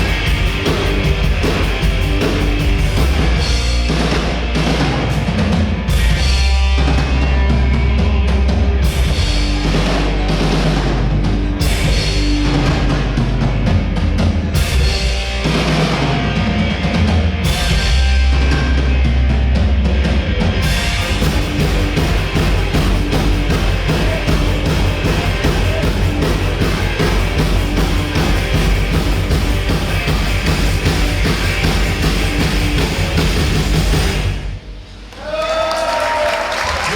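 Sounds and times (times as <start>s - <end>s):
heavy rock music: 0.0s - 35.1s.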